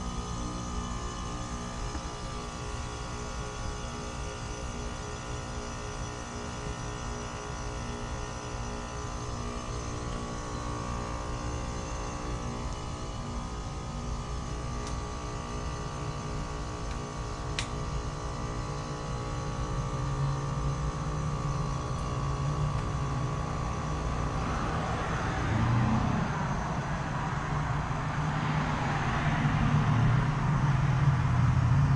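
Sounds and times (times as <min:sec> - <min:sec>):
heat pump compressor and fan humming: 0:00.0 - 0:31.9.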